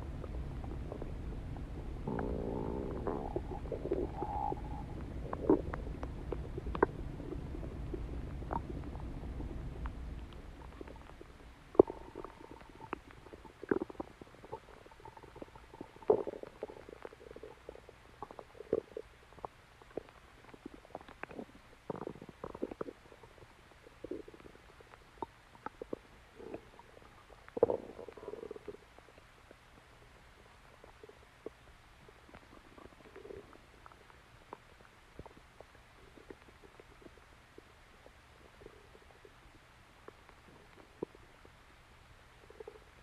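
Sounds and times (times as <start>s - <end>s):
stomach growling and gurgling: 0.0s - 43.0s.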